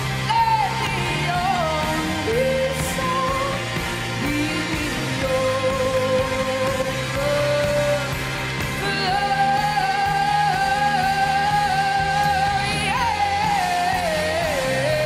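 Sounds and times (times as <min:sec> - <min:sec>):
band playing: 0:00.0 - 0:15.0
woman singing: 0:00.0 - 0:15.0.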